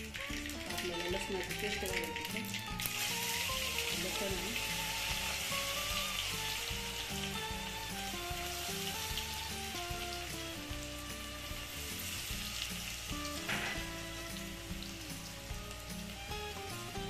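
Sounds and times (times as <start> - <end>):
background music: 0.0 - 17.0
hot oil sizzling: 0.0 - 17.0.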